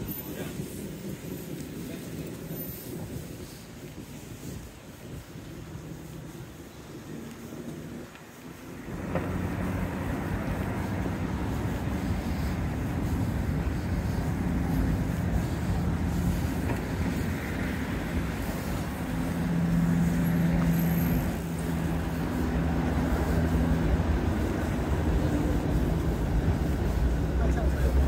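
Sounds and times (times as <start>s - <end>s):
steady low street rumble: 0.0s - 28.0s.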